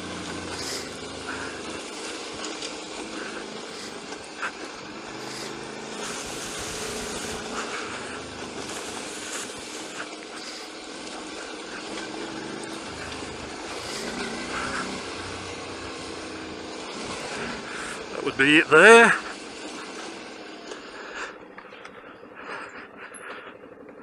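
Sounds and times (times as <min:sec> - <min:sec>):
tyre crunching on gravel: 0:00.0 - 0:20.7
motorcycle engine at low speed: 0:00.0 - 0:24.0.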